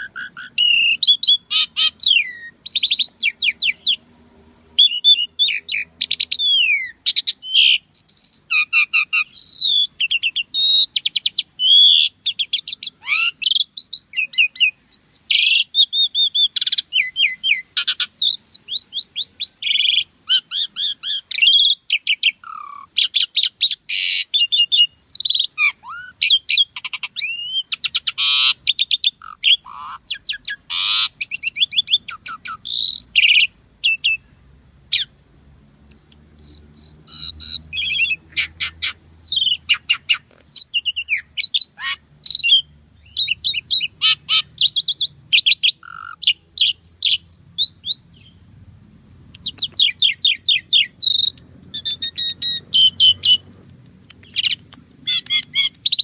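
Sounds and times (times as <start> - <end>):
starling singing: 0.0 - 35.2, 35.9 - 48.5, 49.4 - 56.0.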